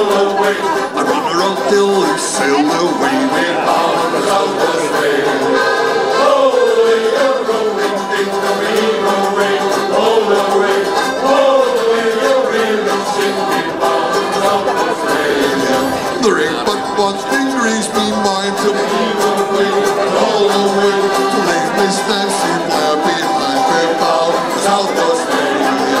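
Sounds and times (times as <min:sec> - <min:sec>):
choir singing shanty: 0:00.0 - 0:26.0.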